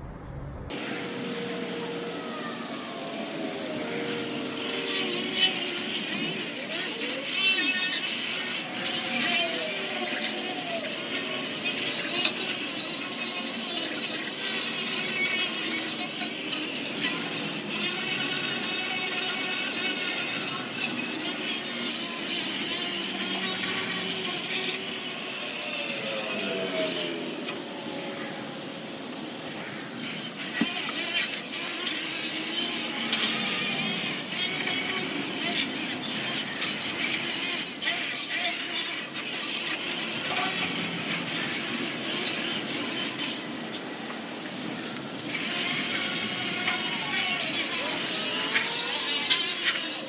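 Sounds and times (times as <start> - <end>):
power wire wheel scraping metal: 2.8 - 27.9, 28.8 - 50.0.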